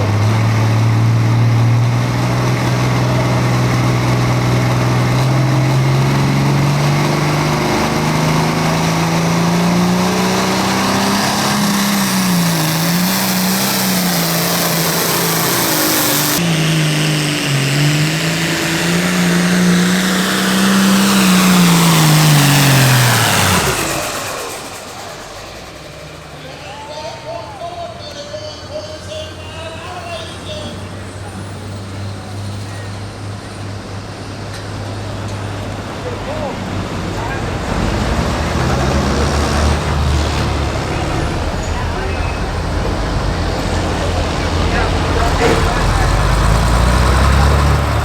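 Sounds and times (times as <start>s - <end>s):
diesel tractor engine under load: 0.0s - 48.0s.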